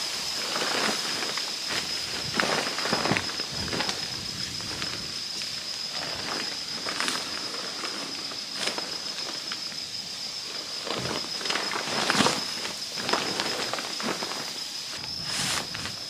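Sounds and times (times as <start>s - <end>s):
footsteps crunching through dry leaves: 0.0s - 16.0s
high-pitched insect drone: 0.0s - 16.0s.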